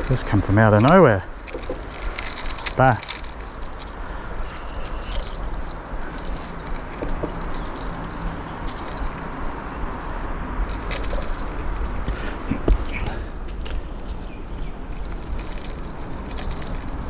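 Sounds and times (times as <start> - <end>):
crickets trilling: 0.0 - 13.4, 14.7 - 17.0.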